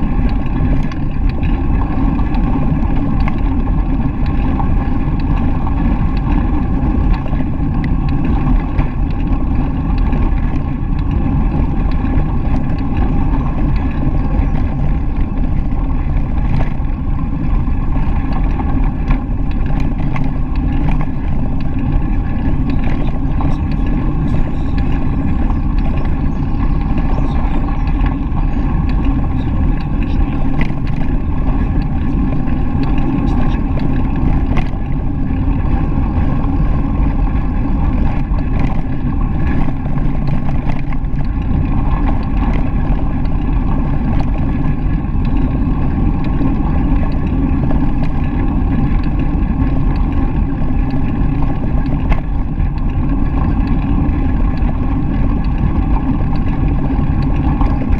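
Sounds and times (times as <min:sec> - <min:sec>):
small clicks from bumps: 0:00.0 - 0:57.9
tyres rolling over gravel: 0:00.0 - 0:57.9
wind on microphone: 0:00.0 - 0:57.9.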